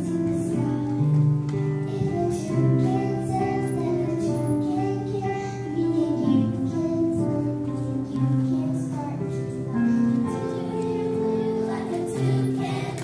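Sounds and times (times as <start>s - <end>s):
music: 0.0s - 13.0s
children singing: 1.9s - 13.0s.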